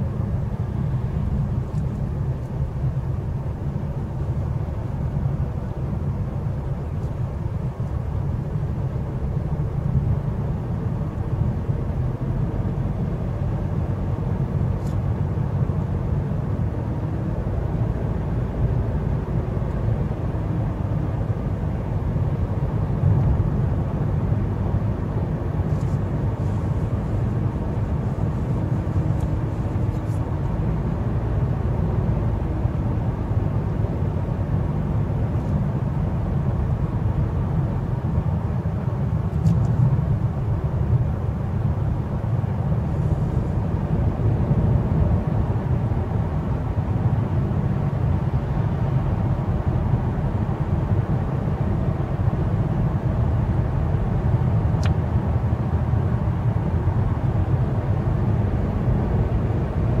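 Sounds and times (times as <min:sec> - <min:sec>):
car driving on paved road: 0:00.0 - 1:00.0.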